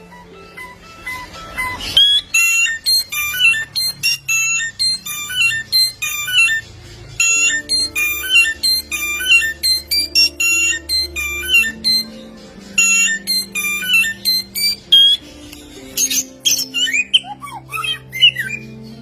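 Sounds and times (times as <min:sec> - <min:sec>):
songbird whistled chirps: 0:00.0 - 0:19.0.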